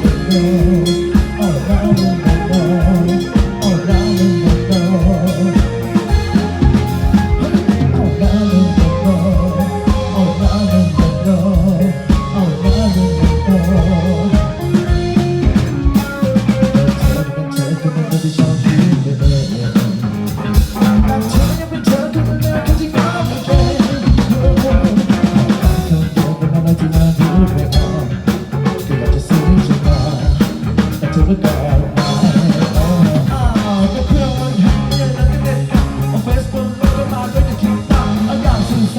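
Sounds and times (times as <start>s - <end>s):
drum kit snare and rimshots: 0.0s - 38.9s
live band music: 0.0s - 38.9s.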